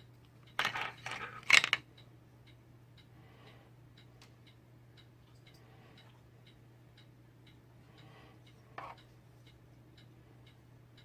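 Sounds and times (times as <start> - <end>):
faint regular ticking: 1.4 - 11.0.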